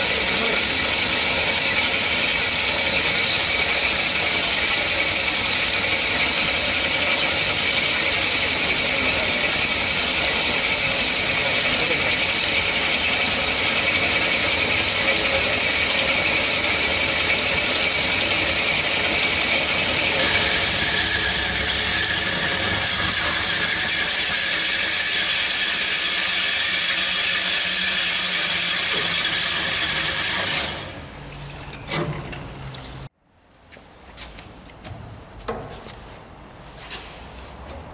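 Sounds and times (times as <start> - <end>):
band saw cutting metal: 0.0 - 31.1.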